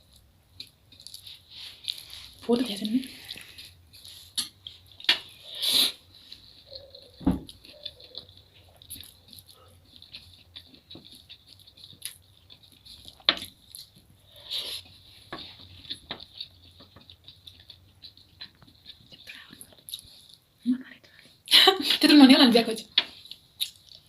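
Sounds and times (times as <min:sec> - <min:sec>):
wet chewing and mouth clicks: 0:00.0 - 0:21.5, 0:22.9 - 0:24.0.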